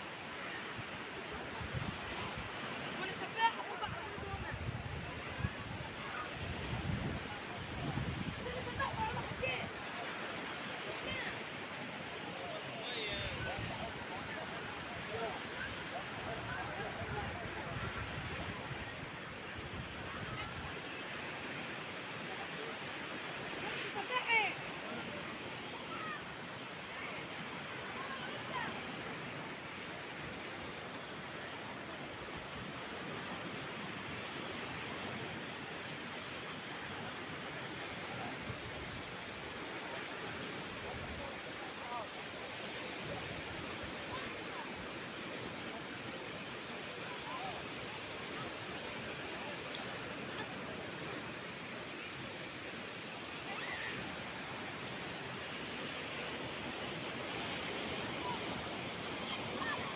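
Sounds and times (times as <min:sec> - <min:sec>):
sea surf washing onto beach: 0:00.0 - 0:59.9
waves breaking on shore: 0:00.0 - 0:59.9.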